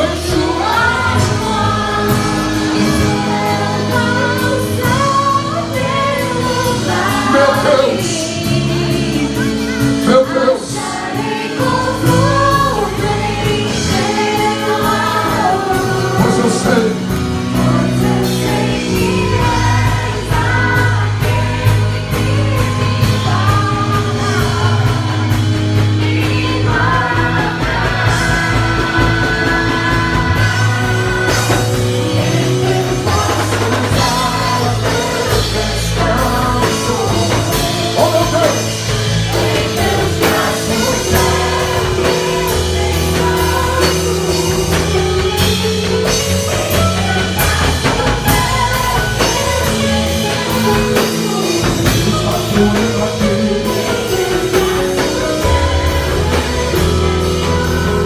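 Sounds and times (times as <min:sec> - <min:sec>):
low bass notes: 0:00.0 - 0:58.0
voices singing: 0:00.0 - 0:58.0
worship song on drums and keyboard: 0:00.0 - 0:58.0.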